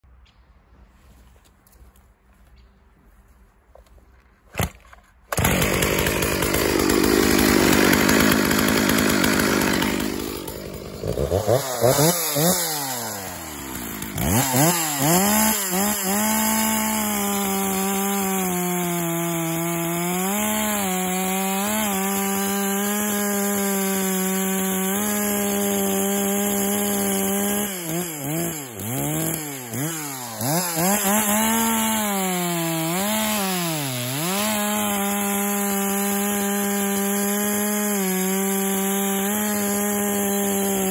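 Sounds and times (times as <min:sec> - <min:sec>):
chainsaw cutting log: 0:04.5 - 0:40.9.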